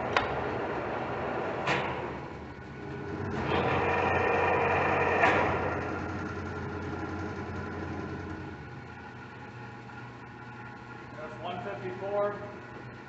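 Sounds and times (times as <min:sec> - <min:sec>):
lathe running with whine: 0:02.4 - 0:13.0.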